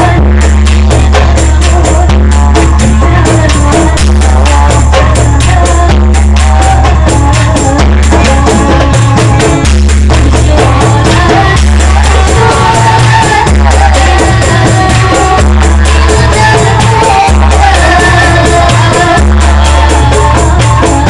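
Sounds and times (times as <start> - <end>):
hand drums beating: 0.0 - 21.0
jingling percussion: 0.0 - 21.0
large drum: 0.0 - 21.0
women singing into microphones: 0.0 - 21.0.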